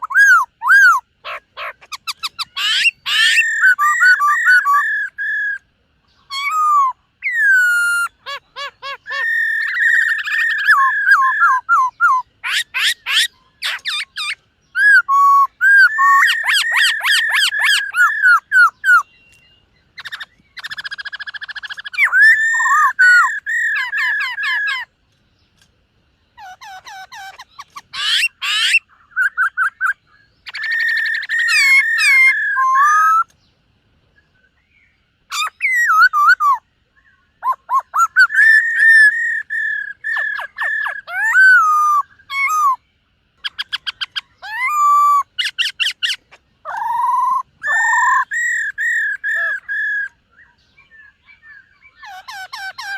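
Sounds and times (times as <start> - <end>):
bird singing whistles and trills: 0.0 - 25.0, 26.3 - 33.5, 34.2 - 52.9.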